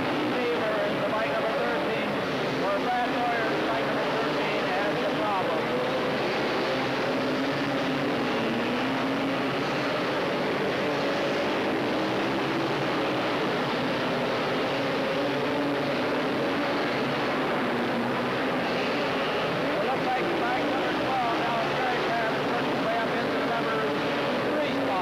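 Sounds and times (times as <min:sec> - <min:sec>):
racing atv engines revving: 0:00.0 - 0:25.0.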